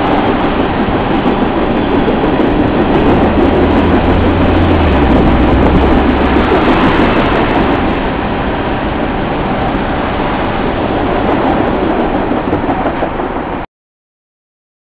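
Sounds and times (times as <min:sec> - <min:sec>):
train wheels rumbling on rail: 0:00.0 - 0:13.7.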